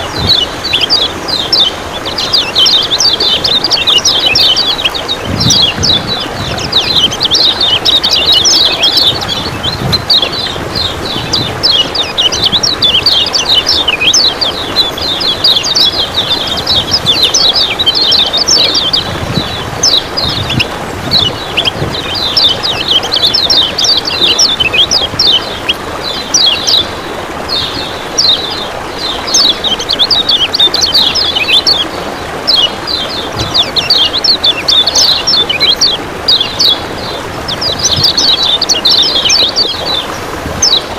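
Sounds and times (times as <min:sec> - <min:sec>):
bird chirping sharp calls: 0:00.0 - 0:40.9
running water: 0:00.0 - 0:40.9.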